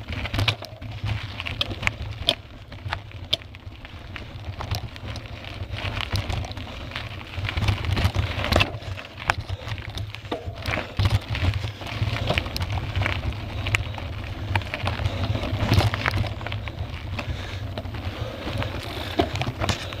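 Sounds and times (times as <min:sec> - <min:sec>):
mountain bike clattering over rocks: 0:00.0 - 0:20.0.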